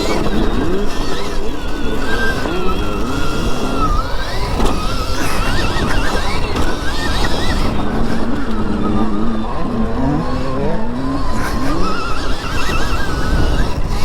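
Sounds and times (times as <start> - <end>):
dirt bike engine revving: 0.0 - 14.0
wind rumble on microphone: 0.0 - 14.0.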